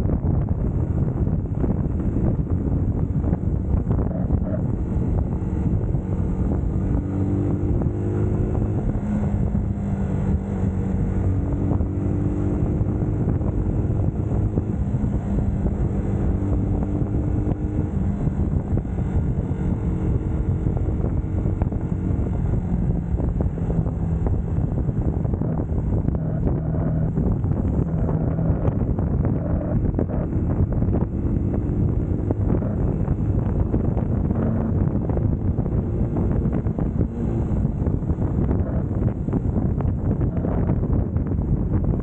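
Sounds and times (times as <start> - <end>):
motorcycle engine revving: 0.0 - 42.0
wind on microphone: 0.0 - 42.0.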